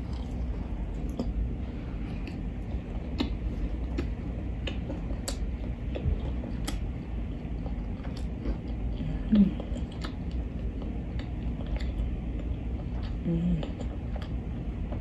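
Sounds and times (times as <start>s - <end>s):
crunchy chewing: 0.0s - 15.0s
steady low hum: 0.0s - 15.0s.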